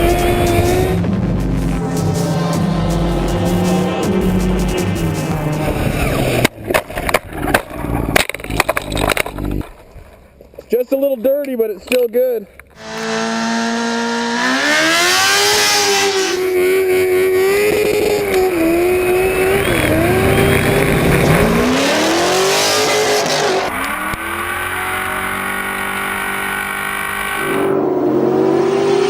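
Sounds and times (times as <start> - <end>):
car engine at high revs: 0.0 - 9.6, 12.8 - 29.0.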